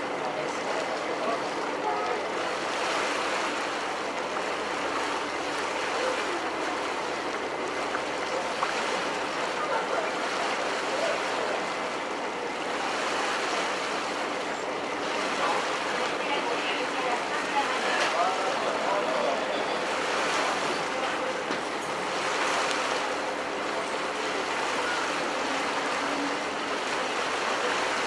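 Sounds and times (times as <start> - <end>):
water rushing: 0.0 - 28.0
wind: 0.0 - 28.0.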